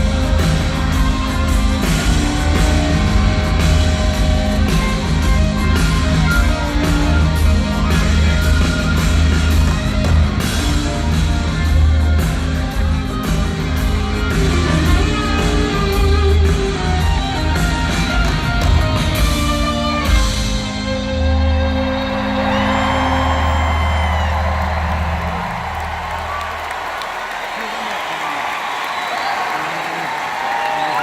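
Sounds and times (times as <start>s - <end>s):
live rock band playing: 0.0s - 26.4s.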